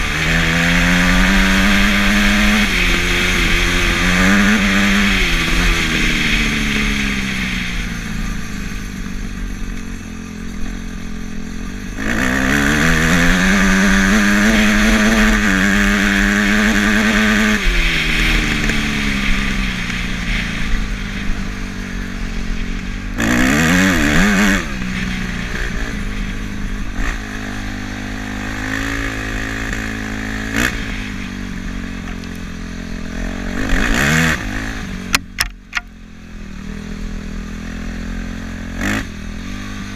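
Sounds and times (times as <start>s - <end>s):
off-road vehicle engine revving: 0.0s - 39.9s
wind: 0.0s - 39.9s.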